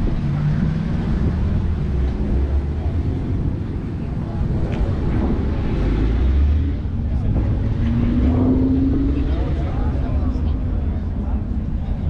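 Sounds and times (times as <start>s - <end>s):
car engine running at low revs: 0.0s - 12.0s
people talking: 0.0s - 12.0s.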